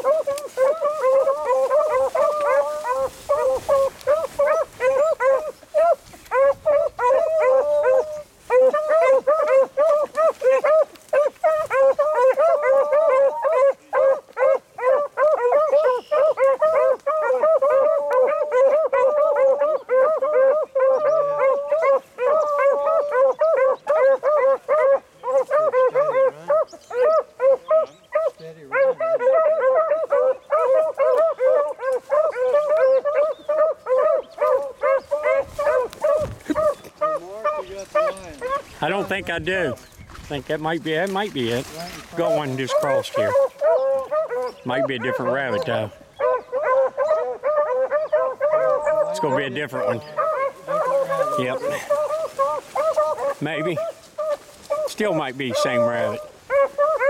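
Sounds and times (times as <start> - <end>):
hounds baying: 0.0 - 57.0.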